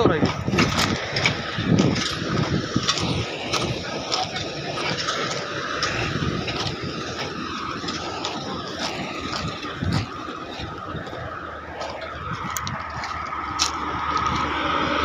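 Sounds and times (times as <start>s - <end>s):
heavy truck engine rumbling: 0.0s - 15.0s
thin steady whine: 0.0s - 15.0s.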